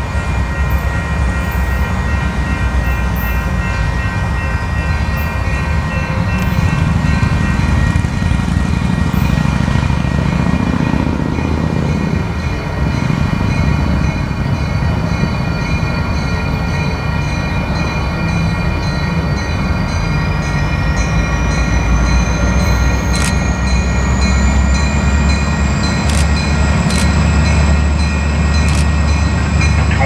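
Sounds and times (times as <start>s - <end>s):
approaching train rumble: 0.0s - 30.0s.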